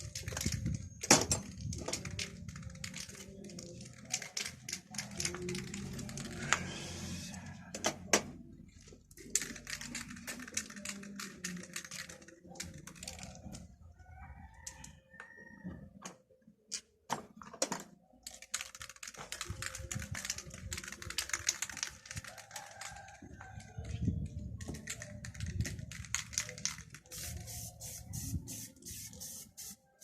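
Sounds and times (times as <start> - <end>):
small hard objects clicking: 0.0 - 6.7, 8.1 - 13.9, 17.7 - 29.8.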